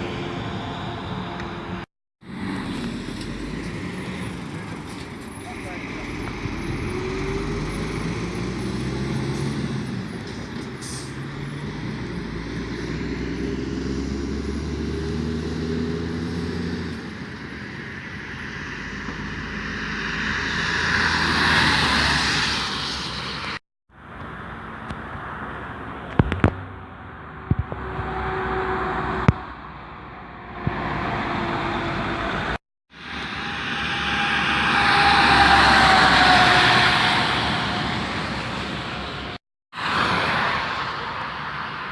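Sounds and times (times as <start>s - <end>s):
vehicles passing: 0.0s - 41.9s.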